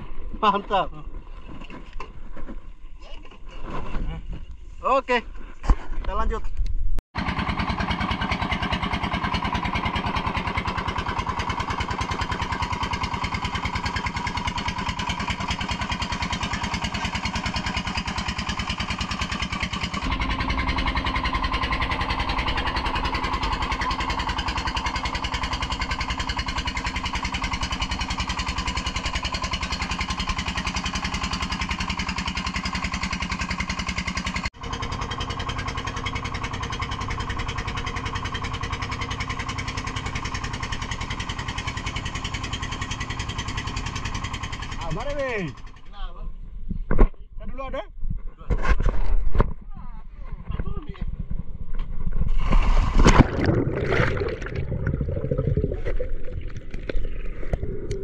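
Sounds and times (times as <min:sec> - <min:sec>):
small engine running: 0:07.2 - 0:46.1, 0:50.4 - 0:58.0.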